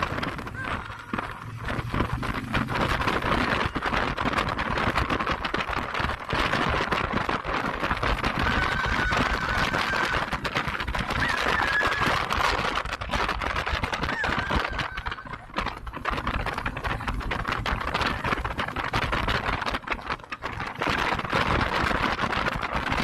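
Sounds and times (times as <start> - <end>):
motorcycle riding rushing noise: 0.0 - 23.0.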